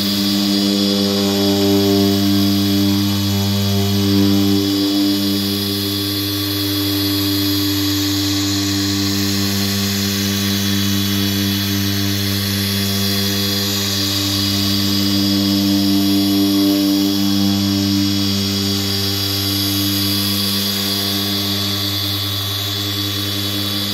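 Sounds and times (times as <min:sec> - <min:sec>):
polisher motor humming: 0:00.0 - 0:23.9.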